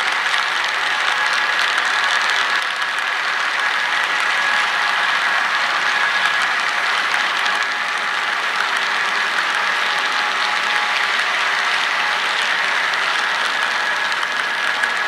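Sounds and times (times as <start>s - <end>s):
model train wheels clicking on rails: 0.0s - 15.0s.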